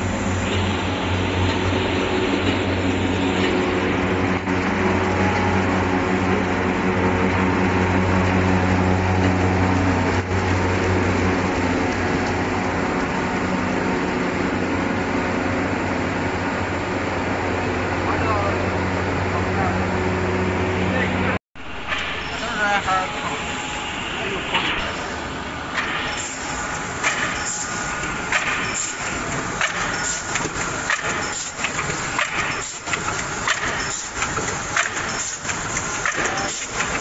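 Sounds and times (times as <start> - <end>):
machinery low hum: 0.0 - 37.0
mechanical rumble: 0.0 - 37.0.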